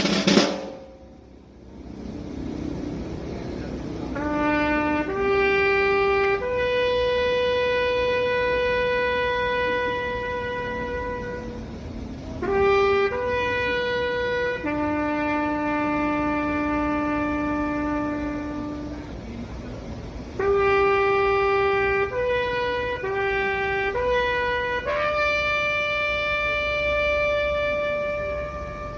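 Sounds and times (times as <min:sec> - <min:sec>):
bugle call: 0:04.1 - 0:19.2, 0:20.2 - 0:28.9.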